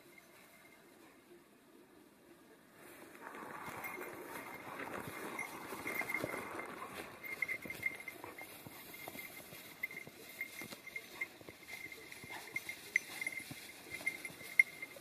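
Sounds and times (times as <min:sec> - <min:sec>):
grass brushing against legs: 0:02.8 - 0:15.0
soft footsteps on grass: 0:02.8 - 0:15.0.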